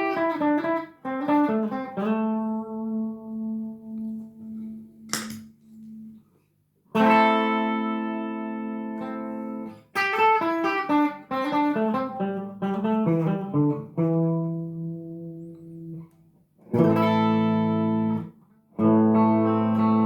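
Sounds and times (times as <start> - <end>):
clean electric guitar with chorus: 0.0 - 6.2, 6.9 - 20.0.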